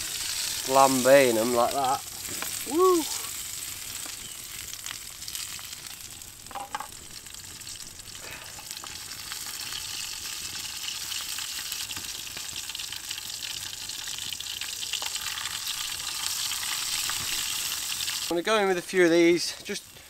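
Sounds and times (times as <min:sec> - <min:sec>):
faint crackles: 0:00.0 - 0:20.0
mushrooms sizzling in a pan: 0:00.0 - 0:20.0.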